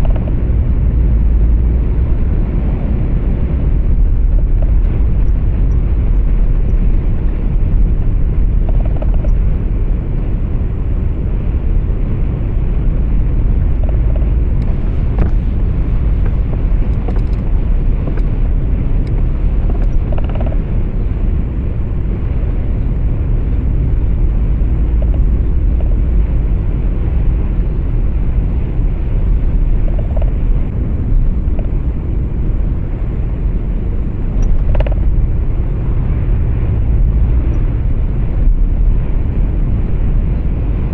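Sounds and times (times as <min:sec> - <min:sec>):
truck engine rumble: 0:00.0 - 0:40.9
tyre road noise: 0:00.0 - 0:40.9.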